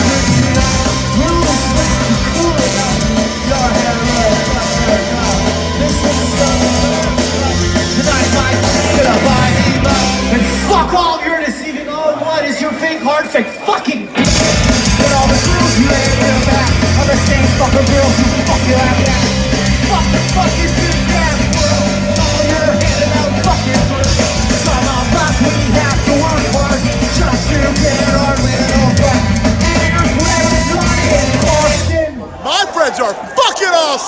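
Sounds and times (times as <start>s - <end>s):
ska punk band playing: 0.0s - 11.6s, 13.4s - 32.2s.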